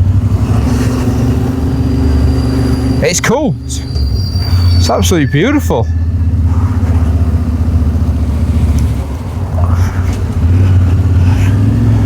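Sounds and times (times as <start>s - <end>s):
motorcycle engine running: 0.0s - 3.9s, 4.8s - 12.0s.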